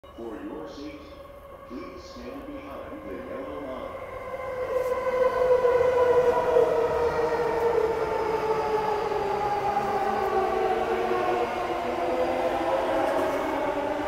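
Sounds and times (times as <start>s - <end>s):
wheels rumbling on rails: 0.1s - 14.0s.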